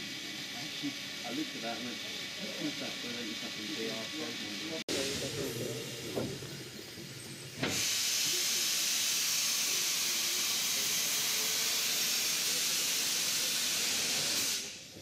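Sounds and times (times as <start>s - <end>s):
steam locomotive hissing steam: 0.0s - 15.0s.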